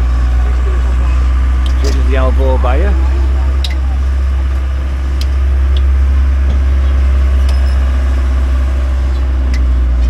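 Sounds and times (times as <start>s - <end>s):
road train engine drone: 0.0s - 10.0s.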